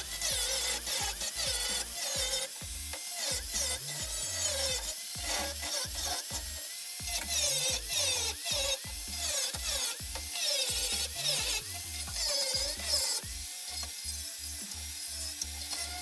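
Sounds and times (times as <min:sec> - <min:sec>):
synth music with a regular beat: 0:00.0 - 0:15.0.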